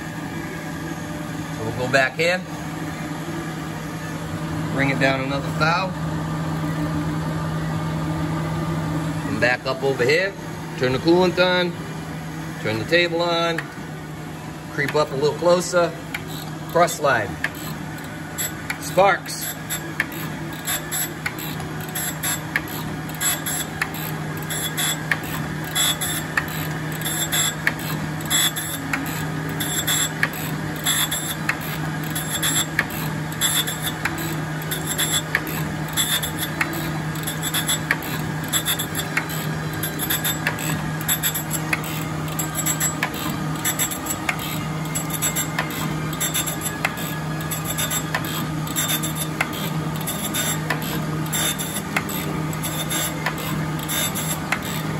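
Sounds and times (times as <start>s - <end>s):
grinder motor hum: 0.0s - 54.9s.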